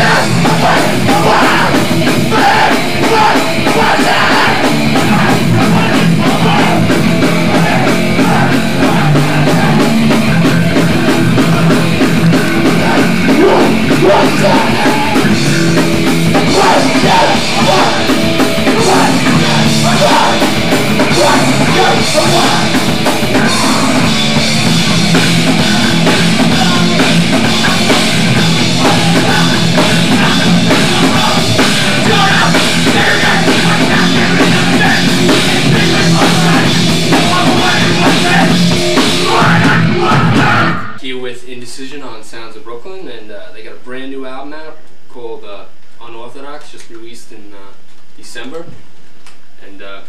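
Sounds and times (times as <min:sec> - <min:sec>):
drum kit: 0:00.0 - 0:41.1
distorted guitar: 0:00.0 - 0:41.2.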